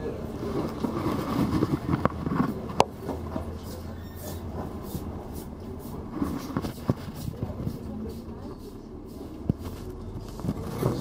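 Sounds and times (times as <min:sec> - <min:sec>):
bus engine hum: 0:00.0 - 0:11.0.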